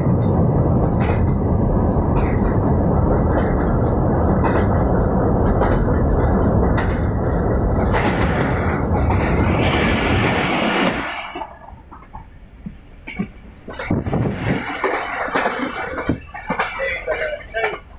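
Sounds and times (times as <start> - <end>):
train wheels rumbling on rails: 0.0 - 17.9.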